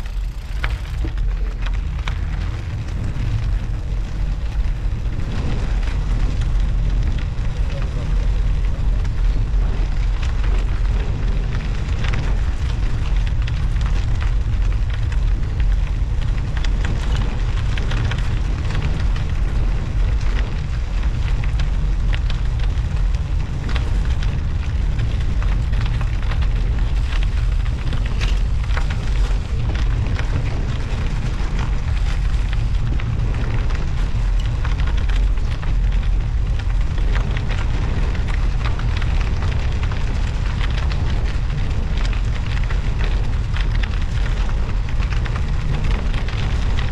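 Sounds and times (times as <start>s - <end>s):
tyres crackling over snow and ice: 0.0s - 46.9s
wind rumble on microphone: 0.0s - 46.9s.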